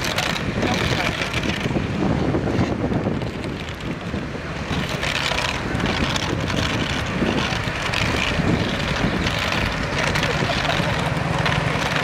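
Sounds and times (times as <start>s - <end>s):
road traffic rumble: 0.0s - 12.0s
wind buffeting microphone: 0.0s - 12.0s.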